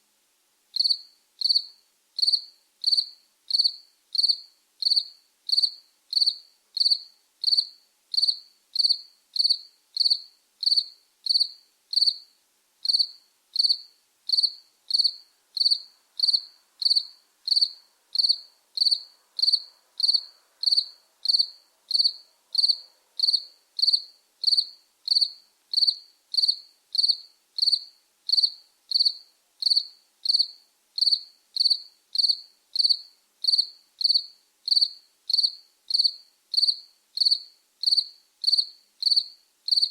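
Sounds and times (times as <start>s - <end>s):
cricket chirping: 0.8s - 39.9s.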